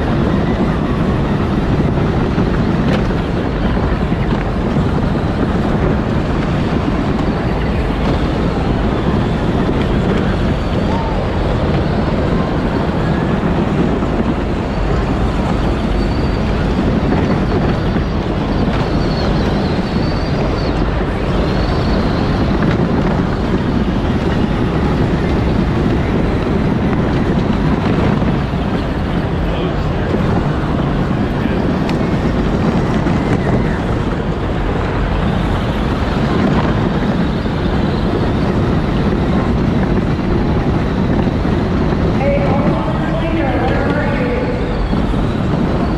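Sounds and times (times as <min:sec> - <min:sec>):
ride-on toy vehicle rumbling: 0:00.0 - 0:45.9.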